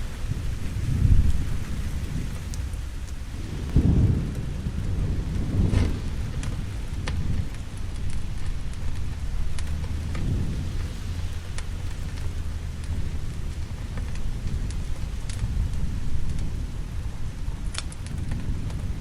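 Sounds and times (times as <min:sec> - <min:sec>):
crackling fire with sharp pops: 0:00.0 - 0:19.0
low rumble of thunder: 0:00.0 - 0:19.0
steady rain: 0:00.0 - 0:19.0.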